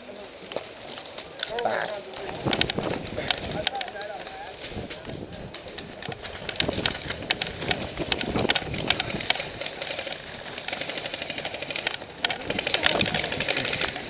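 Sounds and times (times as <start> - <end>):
airsoft gun full-auto rattle: 0.9 - 14.0.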